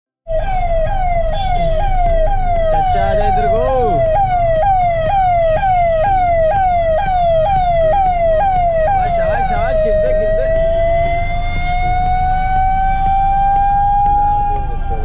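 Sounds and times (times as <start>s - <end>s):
ambulance siren: 0.3s - 15.0s
traffic and engine rumble: 0.3s - 15.0s.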